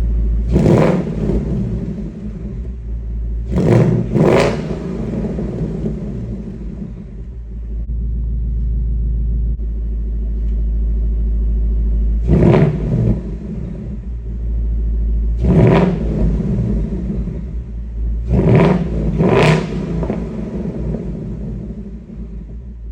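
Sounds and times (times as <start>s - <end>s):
engine revving: 0.0s - 8.3s, 12.1s - 14.4s, 15.2s - 22.9s
car engine idling: 0.0s - 22.9s.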